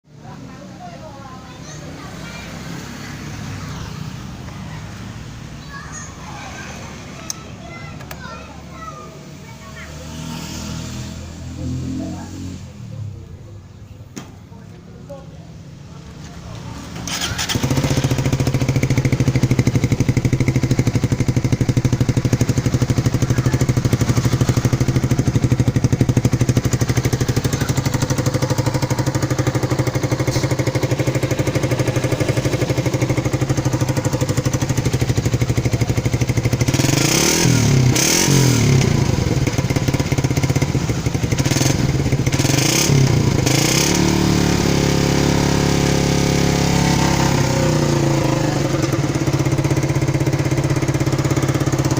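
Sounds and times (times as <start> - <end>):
motorcycle engine idling and revving: 0.1 - 51.9.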